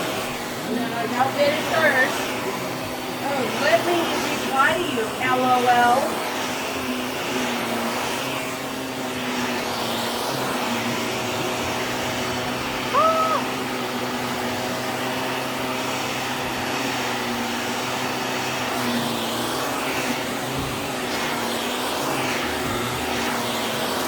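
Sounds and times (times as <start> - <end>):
vacuum cleaner motor running: 0.0 - 24.0.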